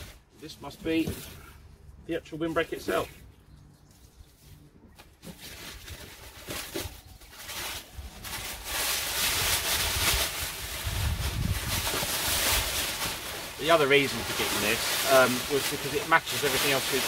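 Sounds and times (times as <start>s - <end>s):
plastic wrapping rustling: 2.4s - 17.0s.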